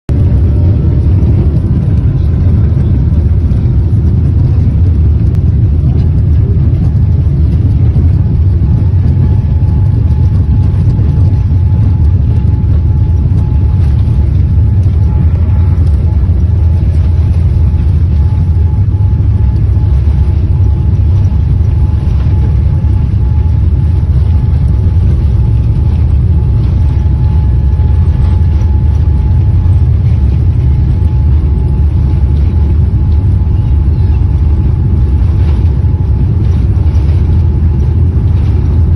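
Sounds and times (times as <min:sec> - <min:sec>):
jet engines low rumble: 0:00.0 - 0:38.9
faint engine whine: 0:00.1 - 0:38.9.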